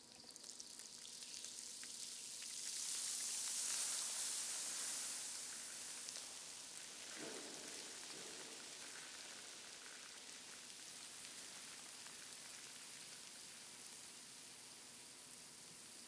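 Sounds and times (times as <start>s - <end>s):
grains pouring onto floor hiss: 0.4s - 16.0s.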